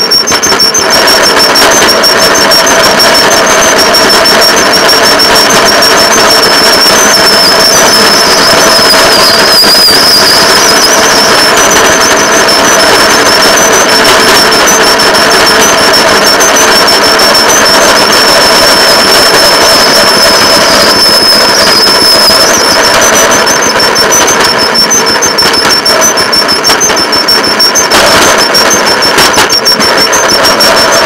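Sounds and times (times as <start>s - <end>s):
high wavering whine: 0.0s - 31.0s.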